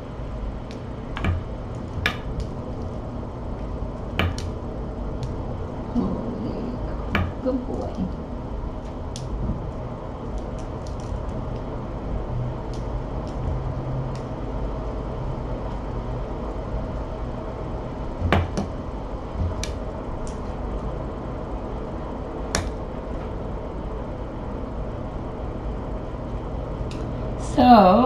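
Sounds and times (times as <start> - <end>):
low room hum: 0.0 - 28.0.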